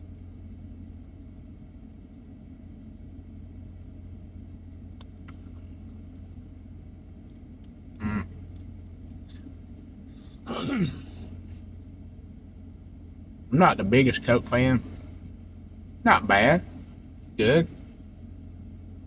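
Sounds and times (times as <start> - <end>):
idling car rumble inside cabin: 0.0 - 19.0.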